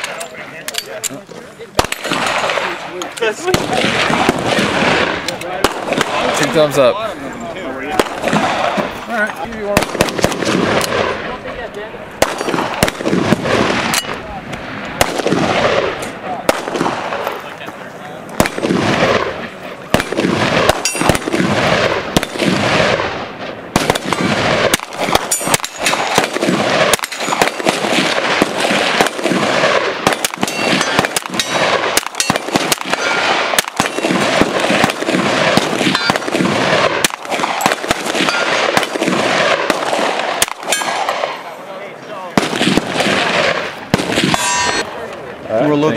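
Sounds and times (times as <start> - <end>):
rapid gunshots: 1.8 - 6.9, 7.8 - 11.6, 12.2 - 17.4, 18.4 - 41.4, 42.4 - 44.8.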